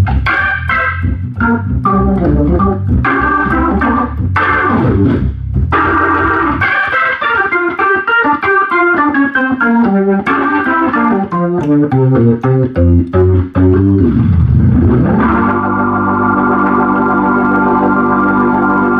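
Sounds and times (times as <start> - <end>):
organ playing: 0.0 - 18.9.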